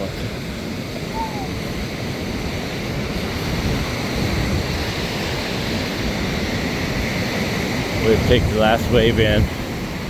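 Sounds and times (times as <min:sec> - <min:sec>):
ocean surf breaking: 0:00.0 - 0:10.0
wind buffeting the microphone: 0:00.0 - 0:10.0.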